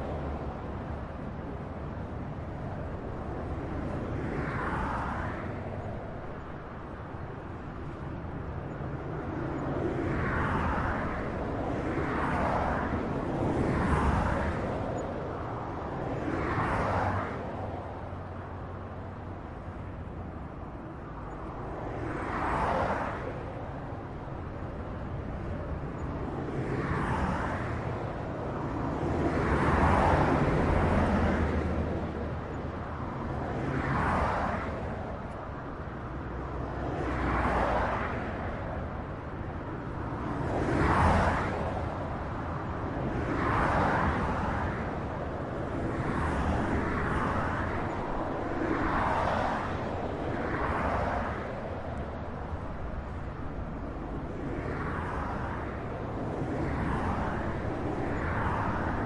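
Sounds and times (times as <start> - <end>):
low rumble of tyres and engines: 0.0 - 59.0
vehicles passing by: 0.0 - 59.0.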